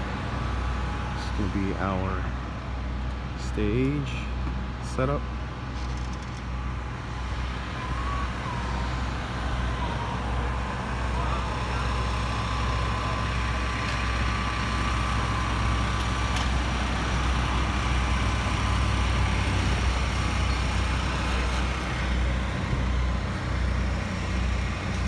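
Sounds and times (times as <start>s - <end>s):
vehicle engines idling: 0.0s - 25.0s.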